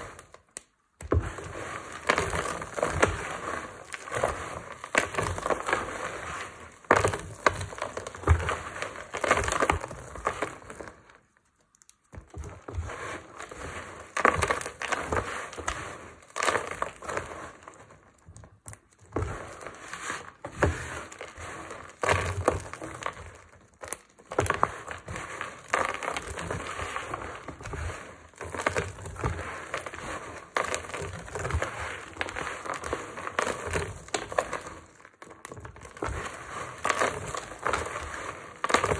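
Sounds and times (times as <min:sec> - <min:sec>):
soap crushed between hands: 0:00.1 - 0:38.9.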